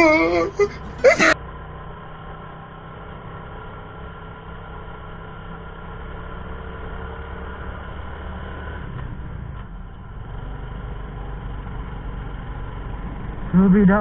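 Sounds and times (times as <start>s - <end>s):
motorcycle engine under load: 0.7s - 14.0s.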